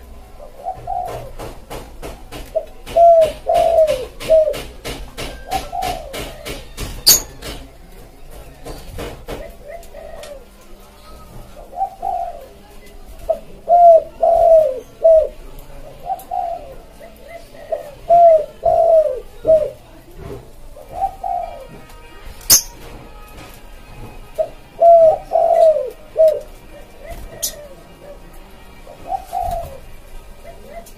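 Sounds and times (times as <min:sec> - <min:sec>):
dove cooing: 0:00.2 - 0:01.8, 0:02.5 - 0:07.4, 0:09.3 - 0:21.9, 0:24.3 - 0:30.9.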